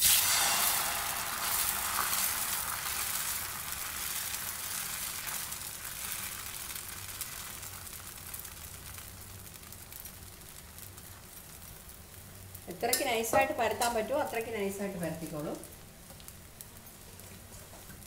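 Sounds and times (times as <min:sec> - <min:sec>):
batter sizzling on a hot pan: 0:00.0 - 0:18.0.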